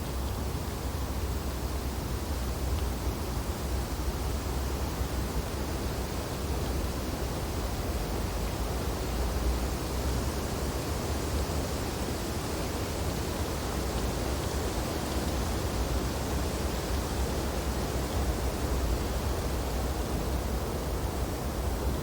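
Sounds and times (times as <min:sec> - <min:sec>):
wind through tree branches: 0:00.0 - 0:22.0.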